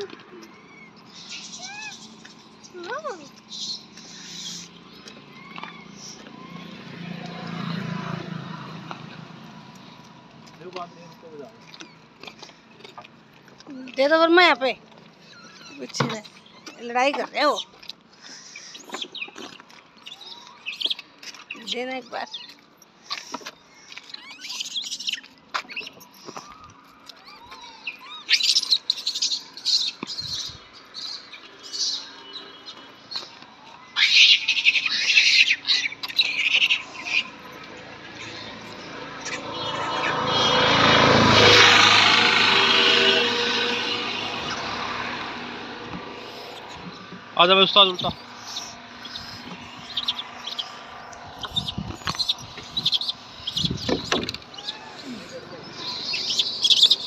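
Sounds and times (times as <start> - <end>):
monkeys screeching: 0.0 - 7.2, 15.2 - 22.5, 23.1 - 45.5, 46.1 - 57.0
small birds chirping: 0.0 - 7.8, 9.7 - 41.6, 45.8 - 57.0.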